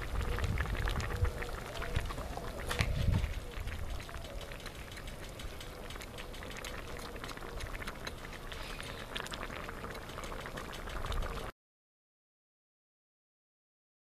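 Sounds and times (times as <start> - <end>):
stew simmering and bubbling: 0.0 - 11.5.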